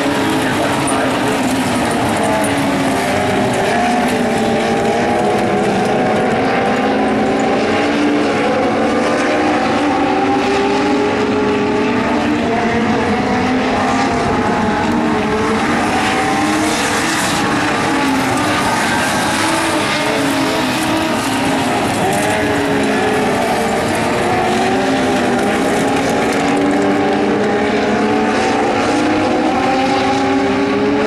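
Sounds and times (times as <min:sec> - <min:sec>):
race car engines racing: 0:00.0 - 0:31.0.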